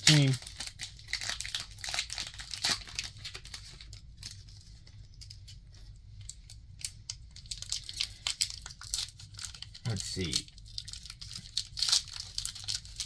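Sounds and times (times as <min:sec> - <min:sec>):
foil wrapper crinkling and tearing: 0:00.0 - 0:05.6, 0:06.2 - 0:13.0.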